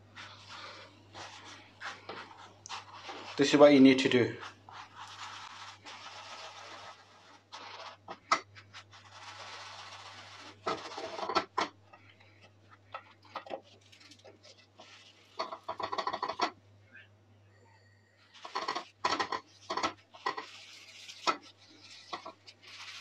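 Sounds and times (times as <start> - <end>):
bagels sizzling in oil: 0.0 - 11.7, 13.6 - 16.5, 18.4 - 23.0
hand handling bagels in pan: 0.0 - 16.6, 18.3 - 23.0.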